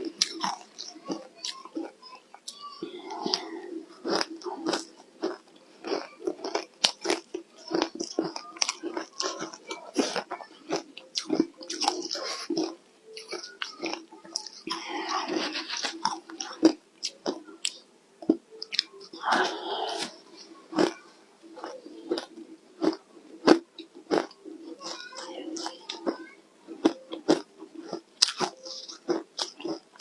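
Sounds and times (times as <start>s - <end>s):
chewing ice cubes crunching: 0.0s - 2.0s, 2.9s - 20.1s, 21.6s - 26.2s, 26.8s - 30.0s.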